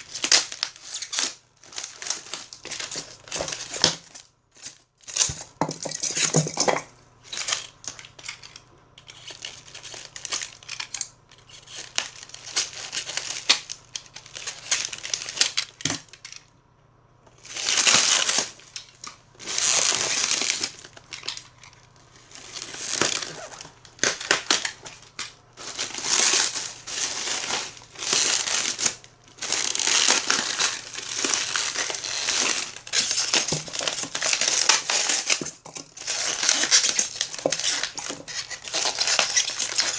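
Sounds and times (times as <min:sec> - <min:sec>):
packaging crinkling and rustling: 0:00.0 - 0:16.5, 0:17.3 - 0:39.9.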